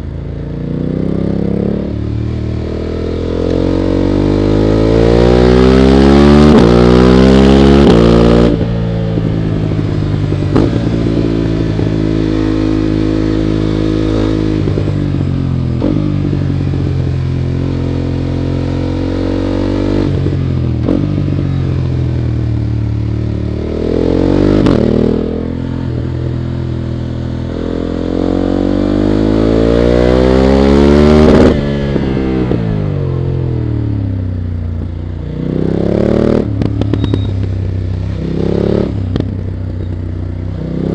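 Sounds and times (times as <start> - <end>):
motorcycle engine accelerating: 0.0 - 40.9
rushing wind: 1.2 - 40.9.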